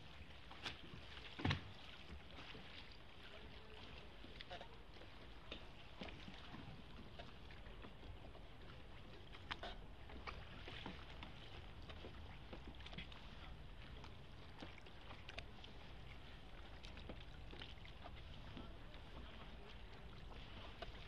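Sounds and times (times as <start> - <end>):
oar splashes and drips: 0.0 - 21.0
water washing along hull: 0.0 - 21.0.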